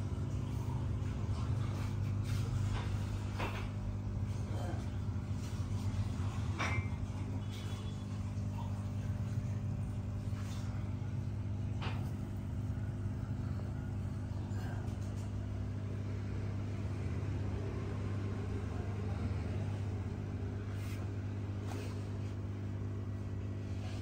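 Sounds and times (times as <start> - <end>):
aquarium pump humming: 0.0 - 24.0.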